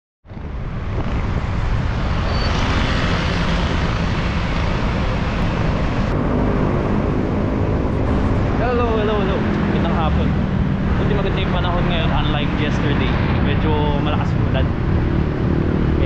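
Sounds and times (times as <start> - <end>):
road traffic: 0.3 - 16.0
wind on microphone: 0.3 - 16.0.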